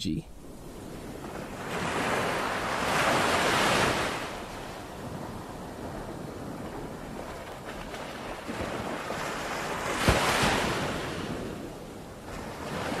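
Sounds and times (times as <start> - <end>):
wind buffeting microphone: 0.4 - 13.0.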